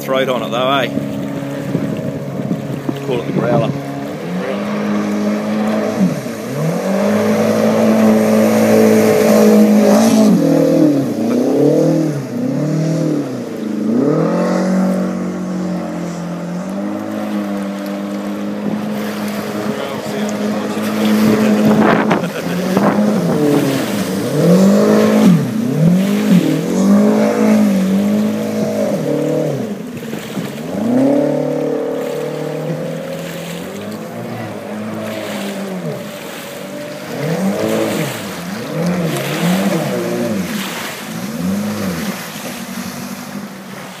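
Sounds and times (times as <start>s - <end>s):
boat engine revving: 0.0s - 44.0s.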